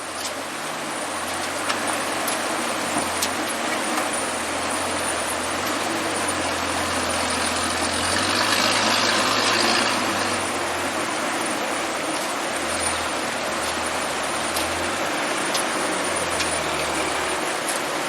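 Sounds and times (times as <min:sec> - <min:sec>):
truck engine droning: 0:00.0 - 0:18.0.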